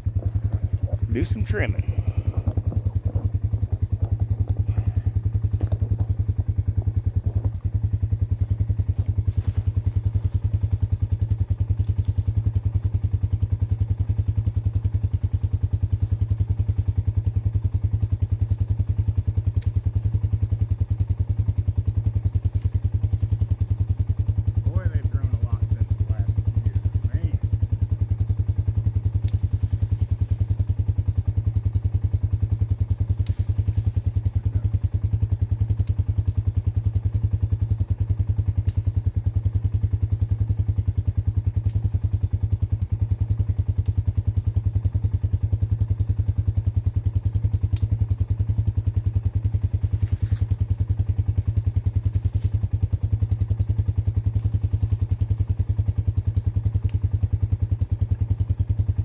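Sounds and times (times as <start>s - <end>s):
atv engine idling: 0.0s - 59.0s.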